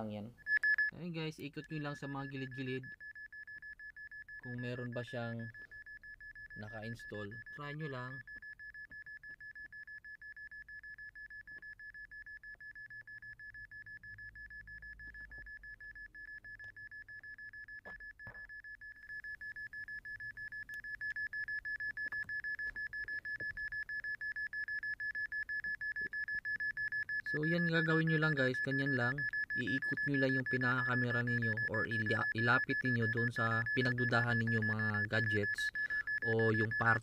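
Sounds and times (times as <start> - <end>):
phone app rapid high beeps: 1.7 - 37.0.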